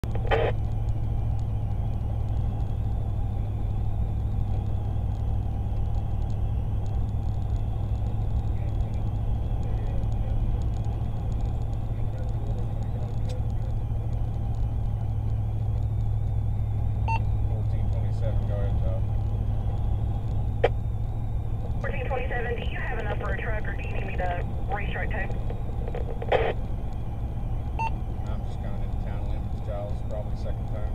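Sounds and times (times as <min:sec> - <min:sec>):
car road and engine rumble: 0:00.0 - 0:30.9.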